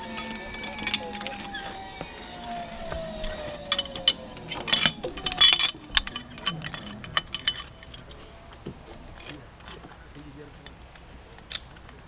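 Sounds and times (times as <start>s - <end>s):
metal carabiners clinking: 0.0s - 12.0s.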